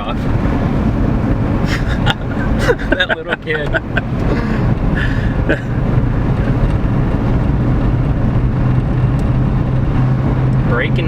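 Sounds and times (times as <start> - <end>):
car engine cruising: 0.0 - 11.0
road noise: 0.0 - 11.0.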